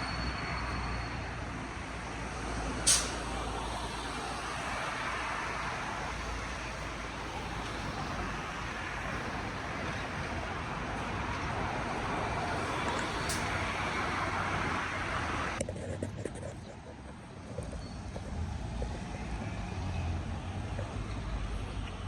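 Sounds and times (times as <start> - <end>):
road traffic hiss: 0.0 - 22.0.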